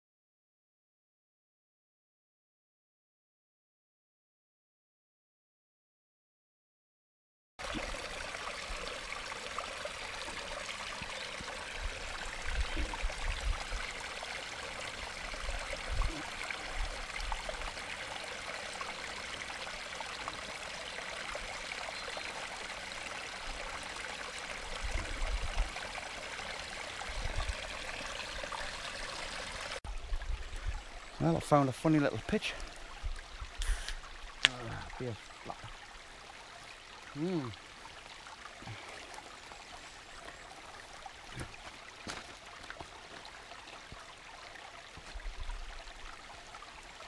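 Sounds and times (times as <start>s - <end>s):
stream babbling over stones: 7.6s - 47.0s.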